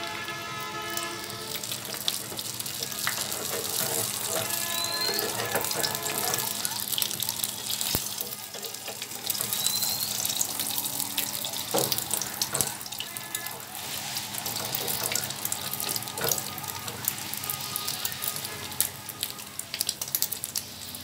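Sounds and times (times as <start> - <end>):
egg sizzling in hot oil: 0.0 - 21.0
spatula scraping pan: 1.5 - 18.8.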